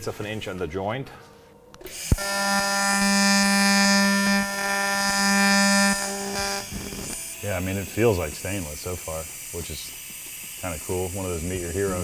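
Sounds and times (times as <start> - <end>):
welding arc crack: 1.8 - 12.0
welding arc electric buzz: 1.8 - 12.0.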